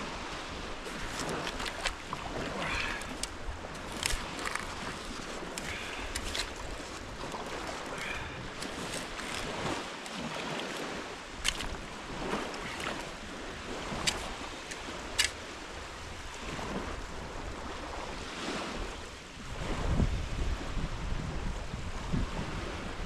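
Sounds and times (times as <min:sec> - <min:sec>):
small waves washing on beach: 0:00.0 - 0:23.0
wind on microphone: 0:00.0 - 0:23.0.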